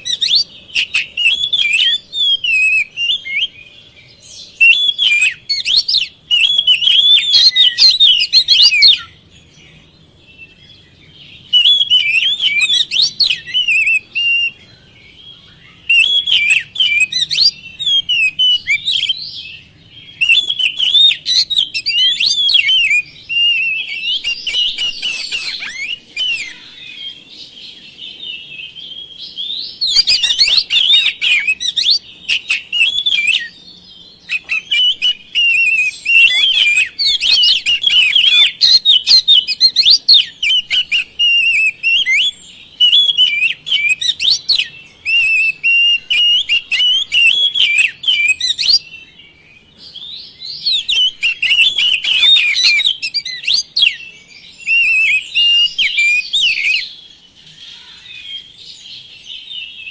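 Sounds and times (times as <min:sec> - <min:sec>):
magpie-robin singing: 0:00.0 - 0:59.9.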